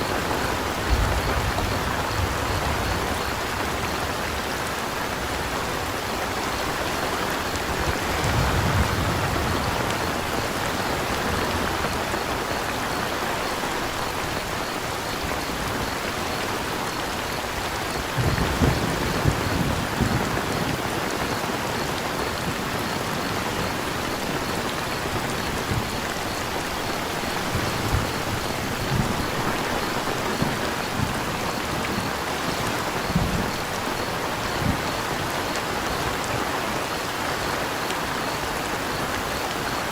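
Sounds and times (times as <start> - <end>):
crickets chirping: 0.0 - 39.9
steady rain: 0.0 - 39.9.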